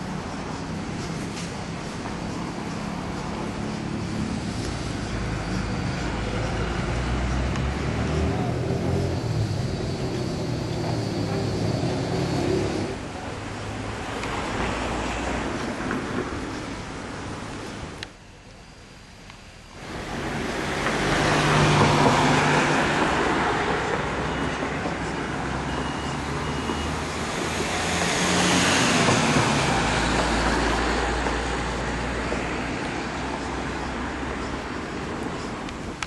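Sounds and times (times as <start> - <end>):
loud vehicle rushing: 0.0 - 17.5, 19.8 - 36.0.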